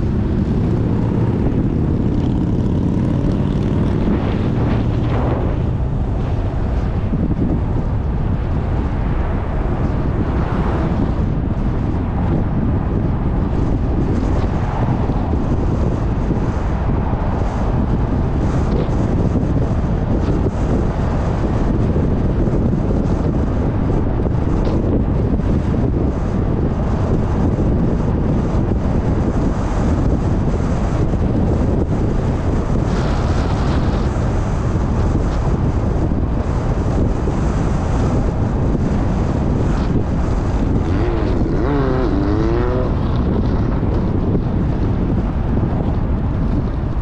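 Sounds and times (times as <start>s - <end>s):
car driving at speed: 0.0s - 47.0s
wind buffeting microphone: 0.0s - 47.0s.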